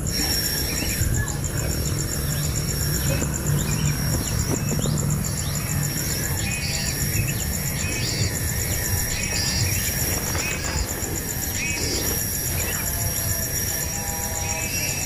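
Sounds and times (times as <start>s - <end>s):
birds chirping: 0.0s - 15.0s
fast-pulsing insect trill: 0.0s - 15.0s.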